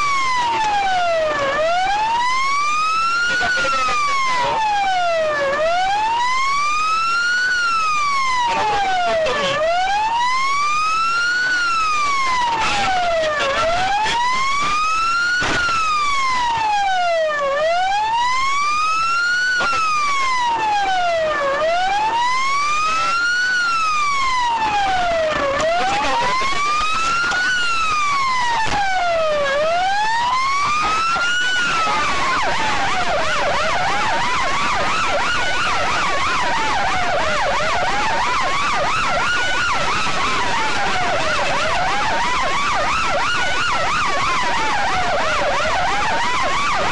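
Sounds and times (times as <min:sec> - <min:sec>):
fast warbling siren: 0:00.0 - 0:46.9
siren wailing: 0:00.0 - 0:46.9.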